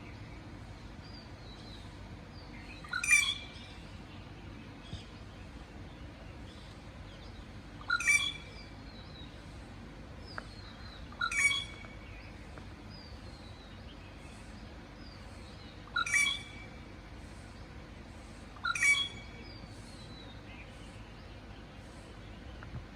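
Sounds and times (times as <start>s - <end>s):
steady background hiss: 0.0s - 22.9s.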